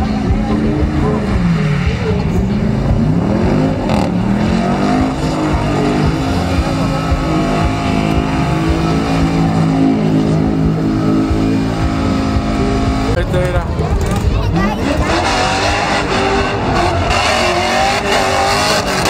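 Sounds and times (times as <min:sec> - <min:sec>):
engine revving in burnout: 0:00.0 - 0:13.2, 0:13.9 - 0:19.0.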